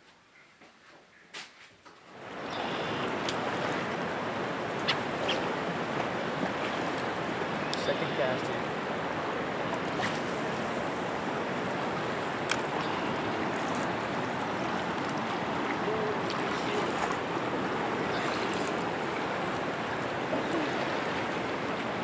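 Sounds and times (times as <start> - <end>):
river rushing: 2.2 - 22.0.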